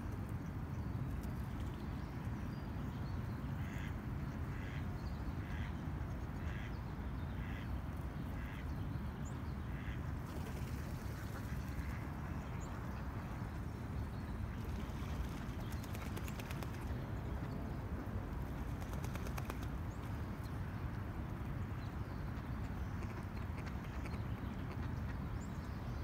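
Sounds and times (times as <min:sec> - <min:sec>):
distant traffic hum: 0:00.0 - 0:26.0.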